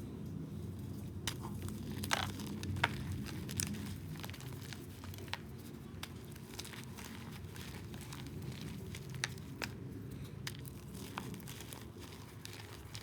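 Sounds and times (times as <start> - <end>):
chalk being crushed: 1.4 - 13.0.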